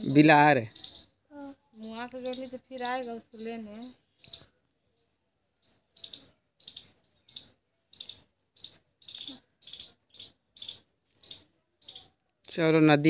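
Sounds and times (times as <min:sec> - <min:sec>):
insect chirping: 0:00.0 - 0:12.7.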